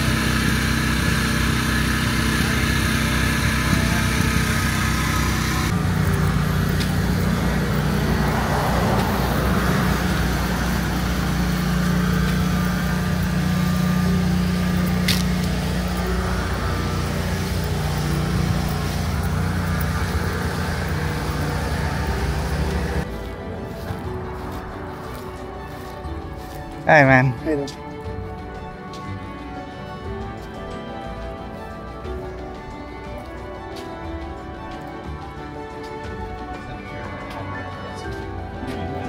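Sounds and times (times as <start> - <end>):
road traffic noise: 0.0 - 39.0
vehicle engine hum: 0.0 - 39.0.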